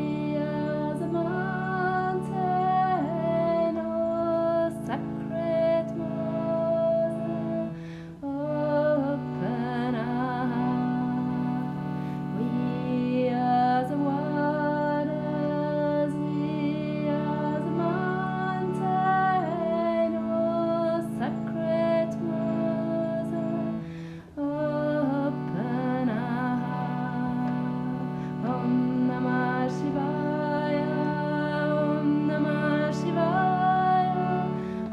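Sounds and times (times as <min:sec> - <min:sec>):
woman singing a mantra: 0:00.0 - 0:23.8, 0:24.4 - 0:34.9.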